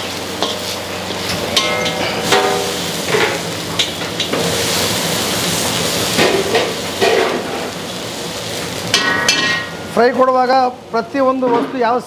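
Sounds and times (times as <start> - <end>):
frying hiss: 0.0 - 12.0.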